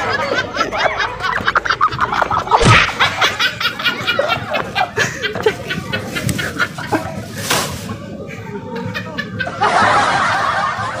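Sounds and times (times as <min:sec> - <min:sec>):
young women laughing: 0:00.0 - 0:07.3, 0:08.2 - 0:11.0.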